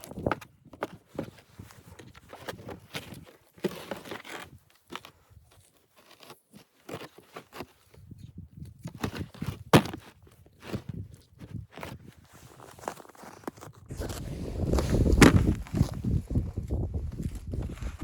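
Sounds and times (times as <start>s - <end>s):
crunching and rustling handling noises: 0.0s - 18.0s.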